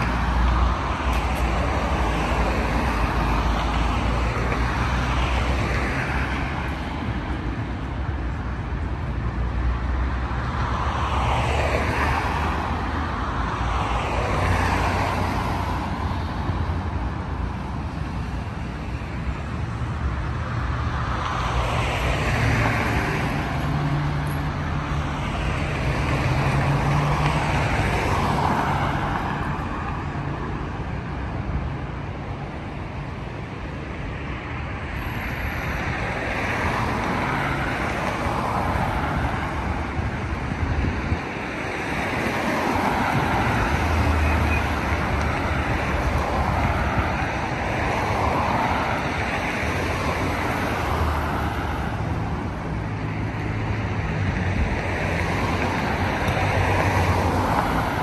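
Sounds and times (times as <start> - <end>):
cars passing: 0.0 - 58.0.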